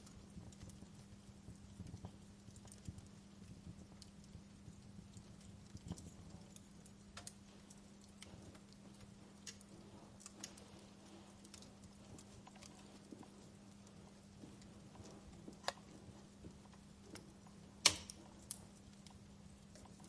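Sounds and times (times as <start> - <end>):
faint steady hum: 0.0 - 20.0
wood fire crackling: 0.0 - 20.0.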